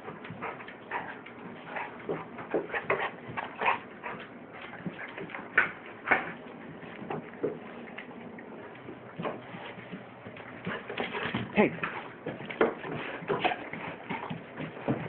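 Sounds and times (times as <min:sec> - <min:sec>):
dogs scuffling on tile floor: 0:00.0 - 0:15.0.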